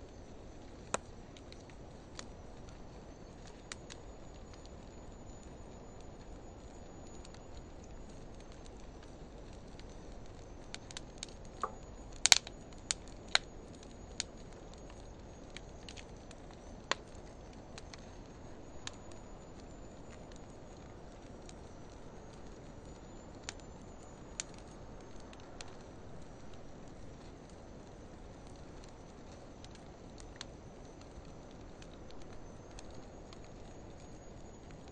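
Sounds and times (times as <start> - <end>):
fire crackles and pops: 0.0 - 34.9
wood fire hissing: 0.0 - 34.9.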